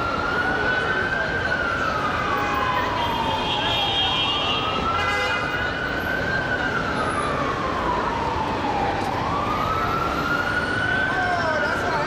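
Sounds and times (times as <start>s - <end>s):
fire truck siren wailing: 0.0s - 12.0s
street noise: 0.0s - 12.0s.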